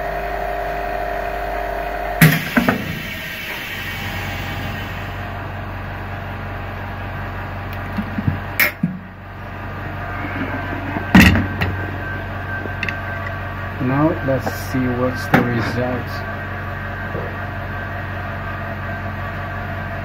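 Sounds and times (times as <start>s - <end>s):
laminating machine humming: 0.0s - 20.0s.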